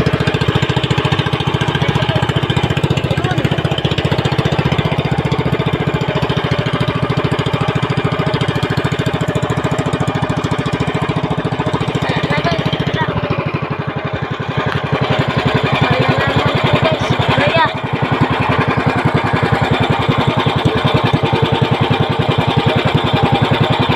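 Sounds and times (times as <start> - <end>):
boat engine running: 0.0 - 23.9.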